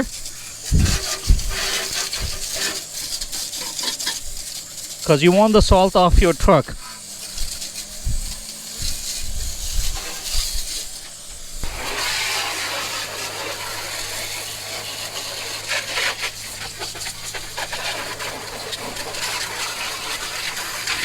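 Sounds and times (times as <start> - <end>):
pressure washer running: 0.0 - 21.0
water jet spraying: 0.0 - 21.0.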